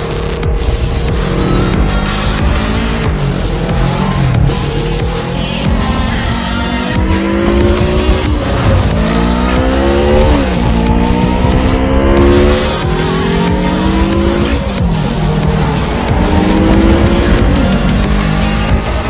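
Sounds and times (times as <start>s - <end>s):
sportbike engine accelerating: 0.0s - 19.0s.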